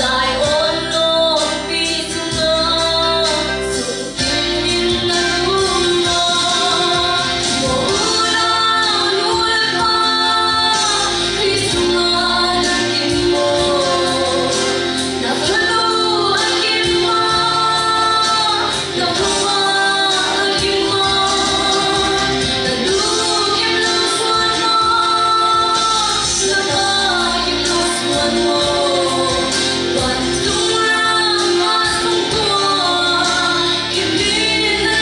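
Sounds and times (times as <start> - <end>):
instrumental accompaniment: 0.0 - 35.0
woman singing into microphone: 0.0 - 35.0.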